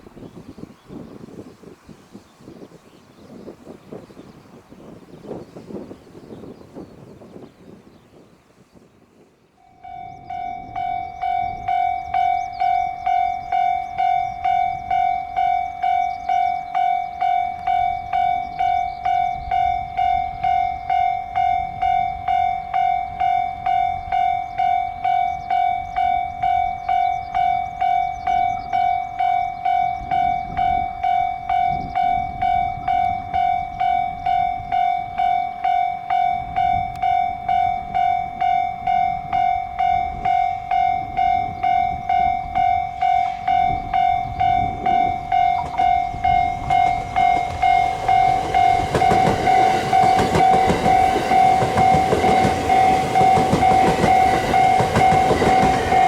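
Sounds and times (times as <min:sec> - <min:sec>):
level-crossing warning bell ringing: 0:09.6 - 0:56.0.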